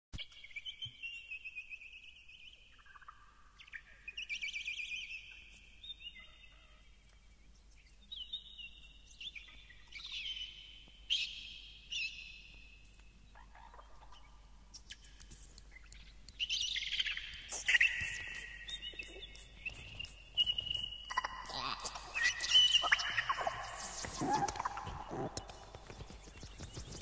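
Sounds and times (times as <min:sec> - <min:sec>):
songbird singing: 0:00.2 - 0:27.0.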